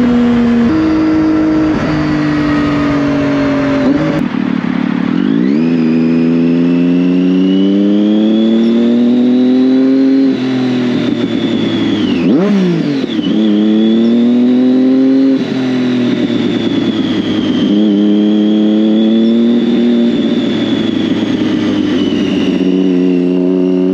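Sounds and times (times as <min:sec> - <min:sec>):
motorcycle engine revving through gears: 0:00.0 - 0:23.9.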